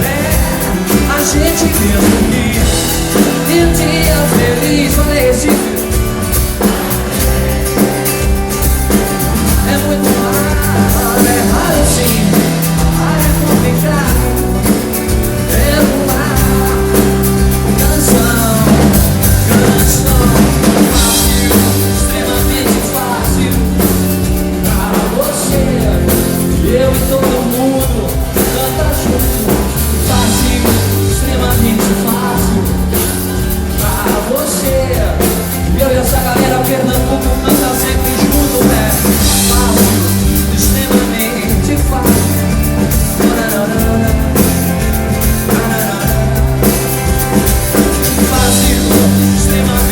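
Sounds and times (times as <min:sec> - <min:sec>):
person singing: 0:00.0 - 0:49.9
pop-rock band playing live: 0:00.0 - 0:49.9.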